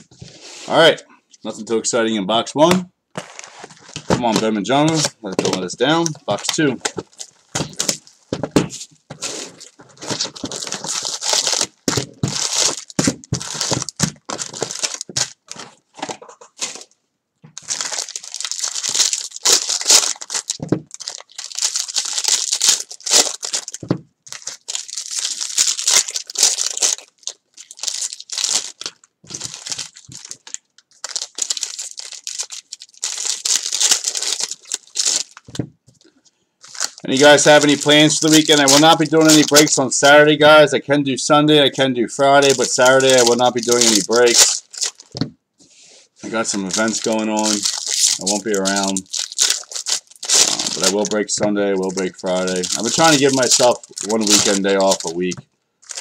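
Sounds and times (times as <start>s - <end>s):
foil packs ripping and crinkling: 3.2s - 8.1s, 9.2s - 15.8s, 17.6s - 35.6s, 36.6s - 39.8s, 42.3s - 45.2s, 46.4s - 56.0s
shrink wrap tearing: 3.2s - 8.1s, 9.2s - 15.8s, 17.6s - 35.6s, 36.6s - 39.8s, 42.2s - 45.2s, 46.3s - 56.0s.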